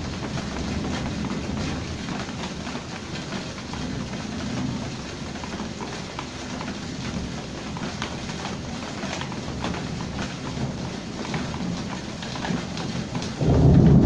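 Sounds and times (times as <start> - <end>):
heavy rain hissing: 0.0 - 14.0
raindrops tapping close by: 0.0 - 14.0.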